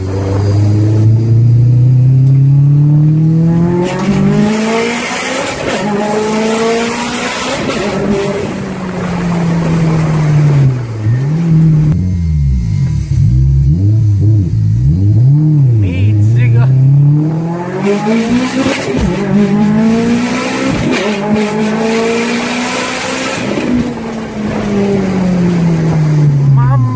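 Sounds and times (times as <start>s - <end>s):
car engine accelerating and revving: 0.0s - 26.9s.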